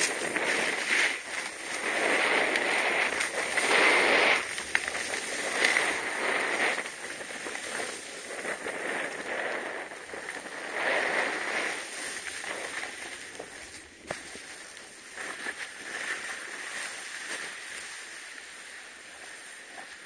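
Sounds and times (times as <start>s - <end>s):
wind buffeting microphone: 0.0s - 18.4s
skis scraping on snow: 0.0s - 20.0s.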